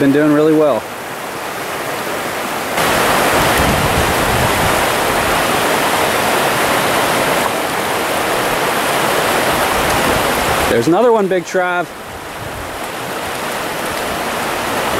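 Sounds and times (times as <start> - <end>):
stream water rushing: 0.0 - 14.9.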